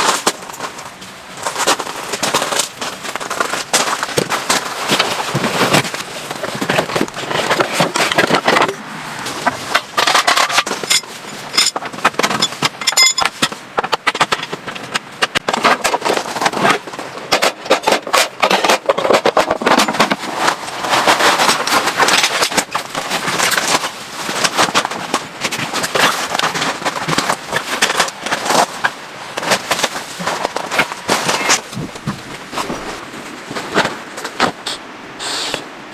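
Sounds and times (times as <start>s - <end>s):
heavy rain on tent and car: 0.0s - 13.8s, 18.9s - 35.1s.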